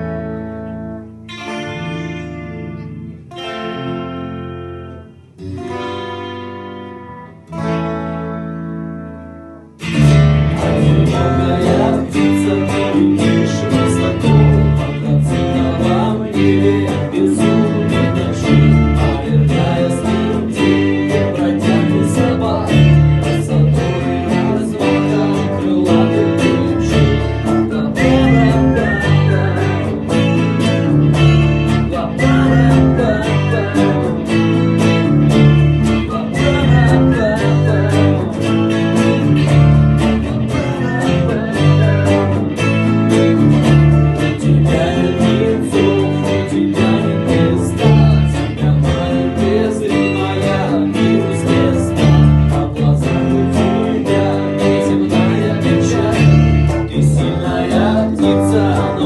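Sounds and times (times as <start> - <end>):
bass guitar line: 0.0 - 59.0
guitar strumming chords: 0.0 - 59.0.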